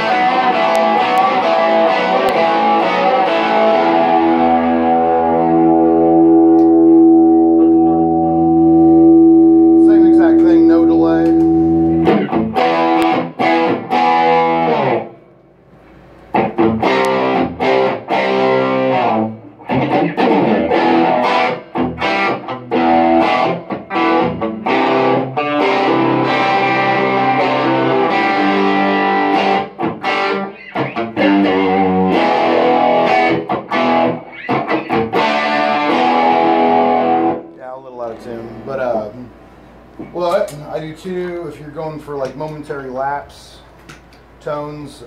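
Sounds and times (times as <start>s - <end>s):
electric guitar with effects: 0.0s - 40.4s.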